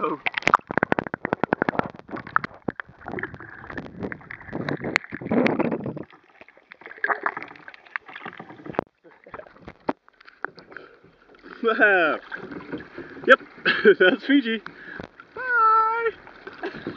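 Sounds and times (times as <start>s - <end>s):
water splashing around kayak: 0.0s - 16.9s.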